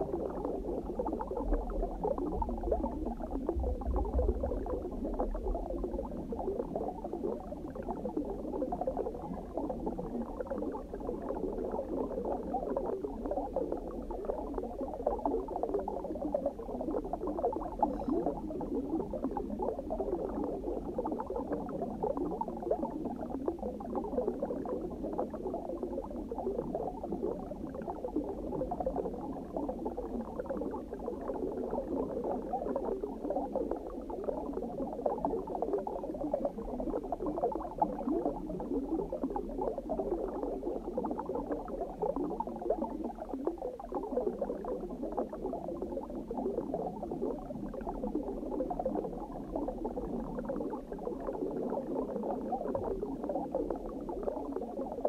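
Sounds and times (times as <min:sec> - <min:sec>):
underwater bubbling: 0:00.0 - 0:55.0.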